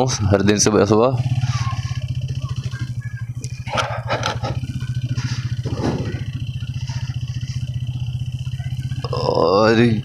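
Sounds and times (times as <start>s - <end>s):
motorcycle engine running: 0.0s - 10.0s
wind or road noise: 0.0s - 10.0s.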